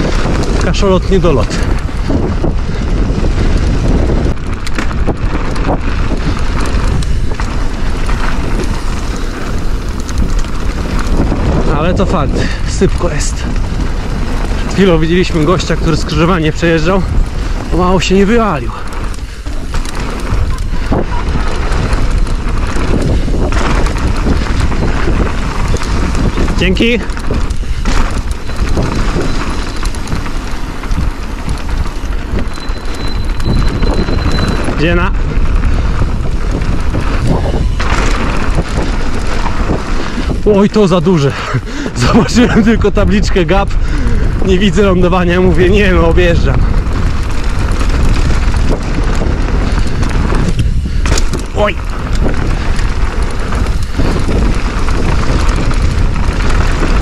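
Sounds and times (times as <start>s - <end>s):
bike rattling over bumps: 0.0s - 57.0s
tyres rumbling on dirt: 0.0s - 57.0s
wind buffeting microphone: 0.0s - 57.0s.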